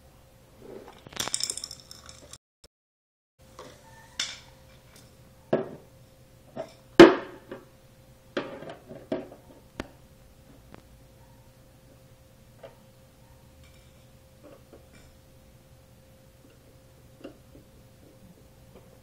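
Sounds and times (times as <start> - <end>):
faint steady hum: 3.4 - 19.0.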